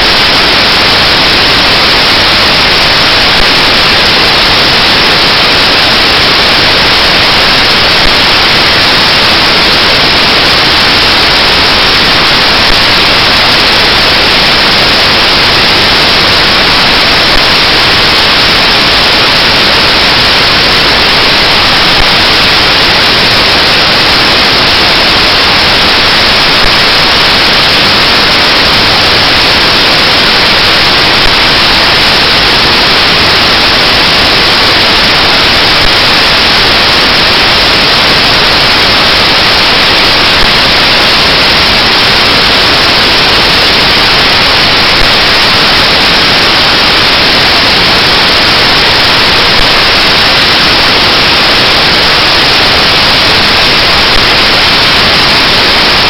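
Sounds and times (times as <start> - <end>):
loud steady static hiss: 0.0 - 56.0.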